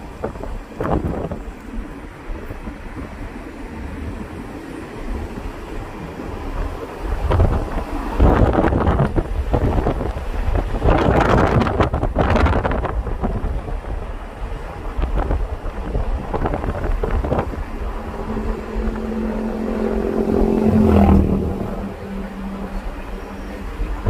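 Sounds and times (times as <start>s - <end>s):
engine hum: 0.0s - 24.0s
low rumble of moving car: 0.0s - 24.0s
wind buffeting microphone: 0.0s - 24.0s.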